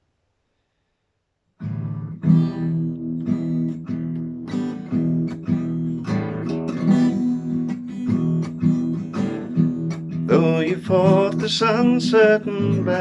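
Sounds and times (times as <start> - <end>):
acoustic guitar strummed chords: 1.6 - 13.0.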